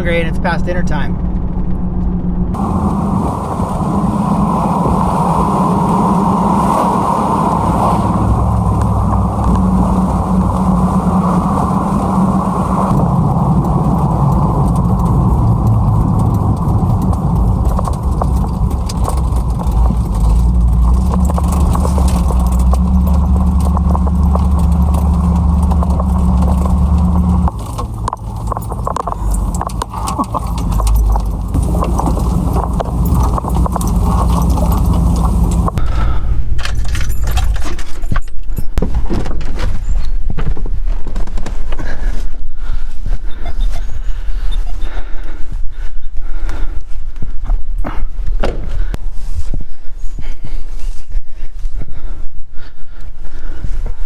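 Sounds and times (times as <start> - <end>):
truck engine and road noise: 0.0 - 52.2.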